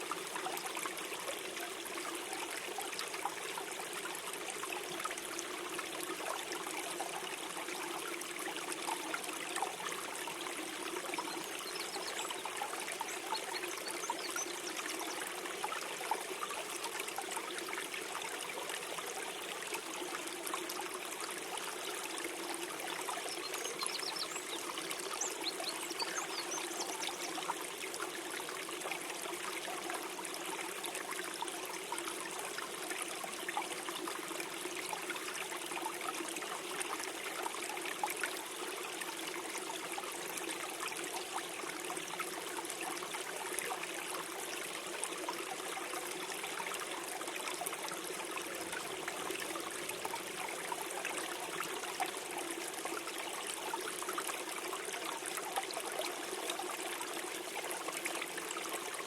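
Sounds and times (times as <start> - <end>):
stream gurgling and trickling: 0.0 - 59.0.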